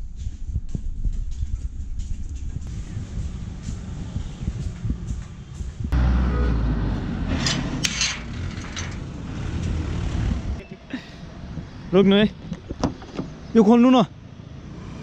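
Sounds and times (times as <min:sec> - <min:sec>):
road traffic rumbling: 0:02.7 - 0:15.0.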